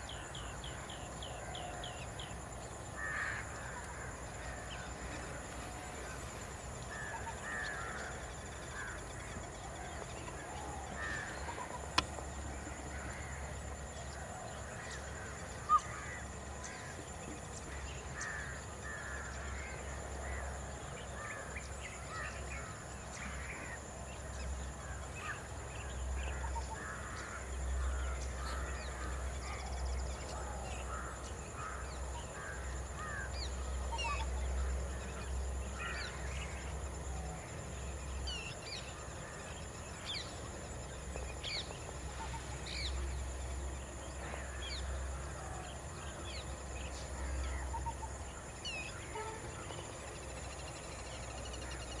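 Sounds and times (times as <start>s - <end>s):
wild birds chirping: 0.0s - 52.0s.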